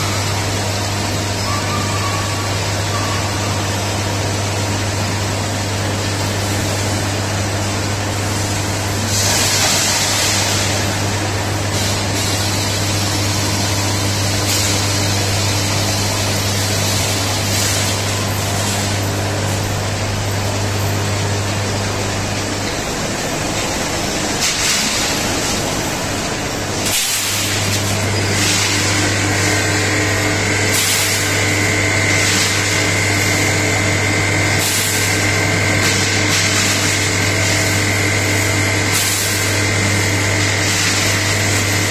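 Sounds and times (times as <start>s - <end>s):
machine humming: 0.0s - 41.9s.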